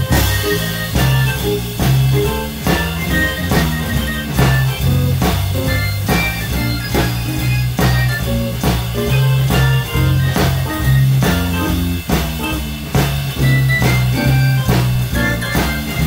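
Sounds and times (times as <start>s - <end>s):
bass line: 0.0s - 16.0s
electric guitar: 0.0s - 16.0s
piano: 0.0s - 16.0s
steady drum beat: 0.0s - 16.0s.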